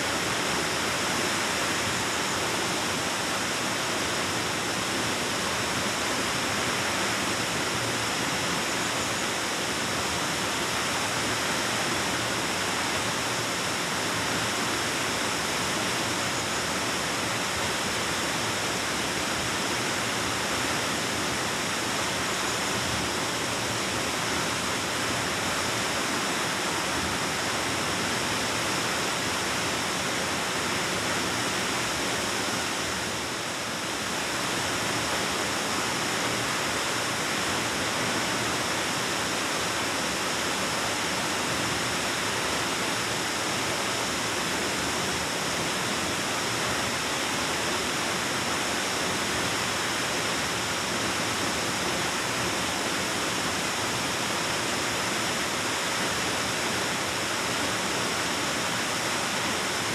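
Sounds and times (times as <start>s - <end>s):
waterfall roaring in cave: 0.0s - 59.9s.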